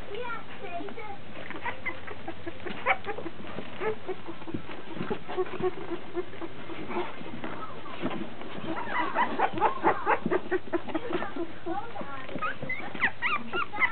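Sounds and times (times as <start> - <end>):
puppies squeaking and whimpering: 0.4 - 13.9.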